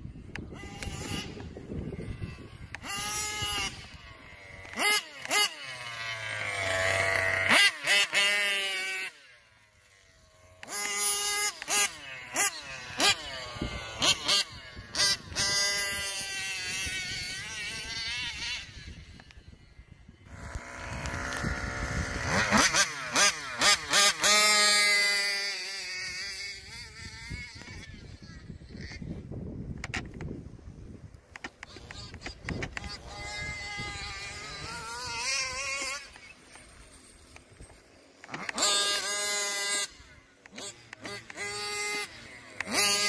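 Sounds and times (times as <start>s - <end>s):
small two-stroke engines revving: 0.1s - 43.0s.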